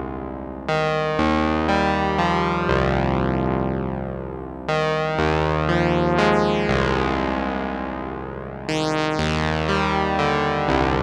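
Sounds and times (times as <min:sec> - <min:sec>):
synthesizer chords over bass note: 0:00.0 - 0:04.0, 0:04.7 - 0:11.0.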